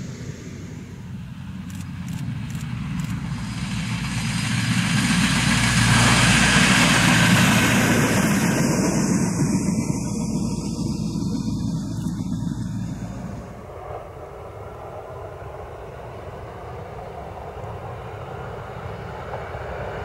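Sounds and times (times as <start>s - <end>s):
diesel railcar passing: 0.0s - 20.0s.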